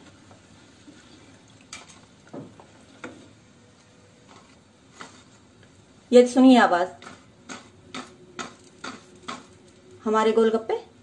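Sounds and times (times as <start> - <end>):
oil sizzling faintly: 0.0 - 11.0.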